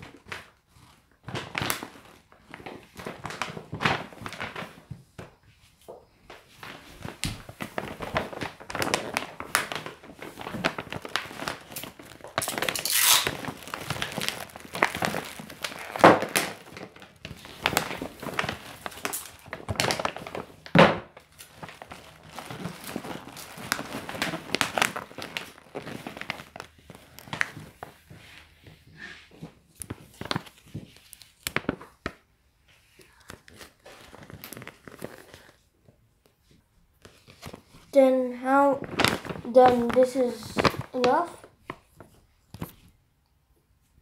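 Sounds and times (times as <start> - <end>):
wrapping paper crinkling: 0.0 - 35.8, 36.9 - 42.9.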